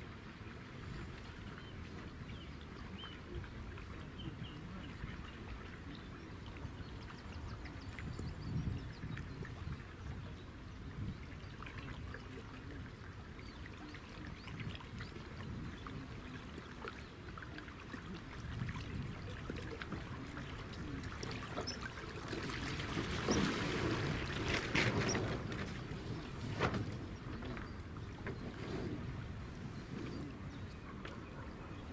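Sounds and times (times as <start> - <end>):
wind rumble on microphone: 0.0 - 17.2, 18.1 - 31.9
water splashing and trickling: 0.0 - 31.9.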